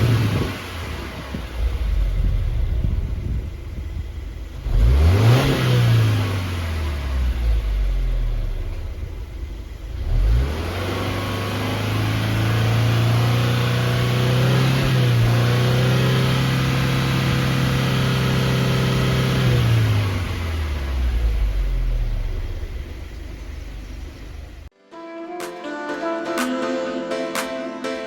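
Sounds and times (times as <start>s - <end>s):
car engine revving: 0.0s - 24.7s.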